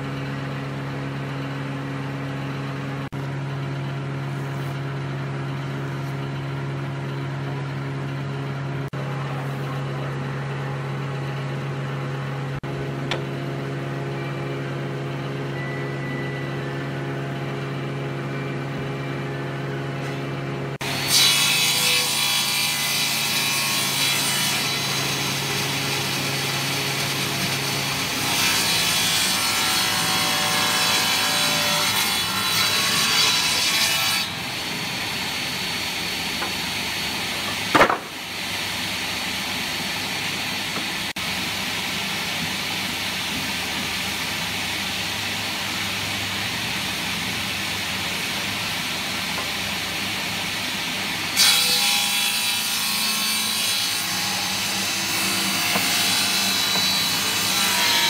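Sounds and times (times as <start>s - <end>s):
table saw cutting wood: 0.0s - 58.0s.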